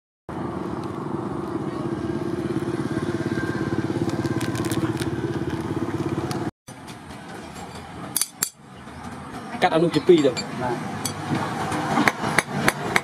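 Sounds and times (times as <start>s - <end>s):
engine running: 0.3s - 13.0s.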